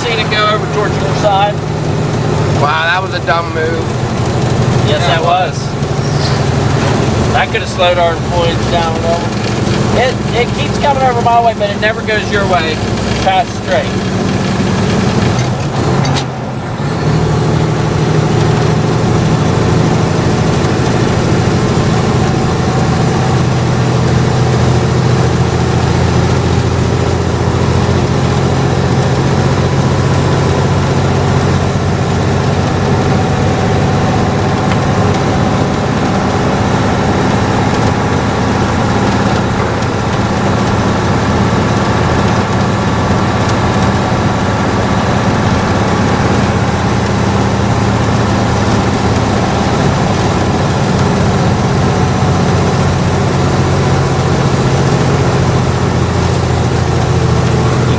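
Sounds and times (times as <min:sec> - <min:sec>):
truck diesel engine droning: 0:00.0 - 0:57.9.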